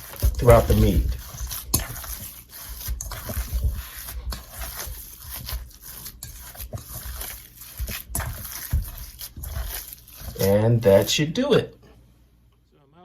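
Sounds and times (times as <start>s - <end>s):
hands squishing ground meat: 0.0s - 11.2s.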